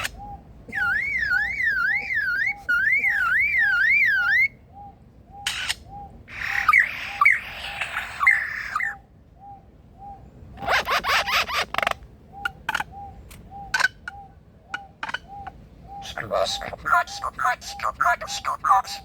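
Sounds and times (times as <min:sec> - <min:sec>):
bird chattering calls: 0:00.0 - 0:04.5, 0:05.4 - 0:09.0, 0:10.6 - 0:19.0
bird wavering whistle: 0:00.0 - 0:16.2.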